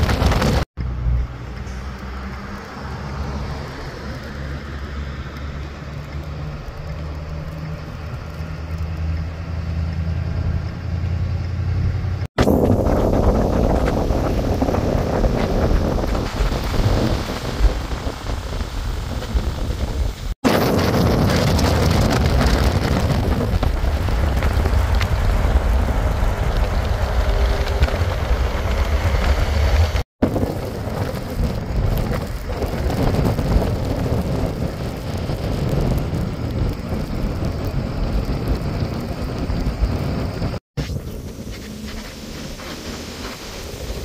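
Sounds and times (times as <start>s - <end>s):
highway traffic noise: 0.0s - 44.0s
steady wind: 0.0s - 44.0s.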